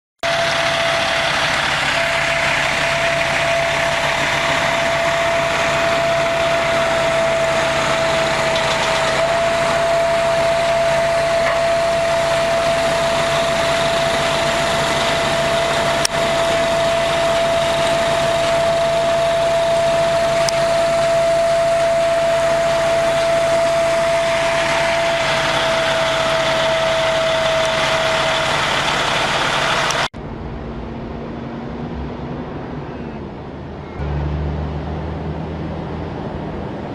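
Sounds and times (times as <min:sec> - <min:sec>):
high whine: 0:00.2 - 0:34.2
truck engines droning: 0:00.2 - 0:36.9.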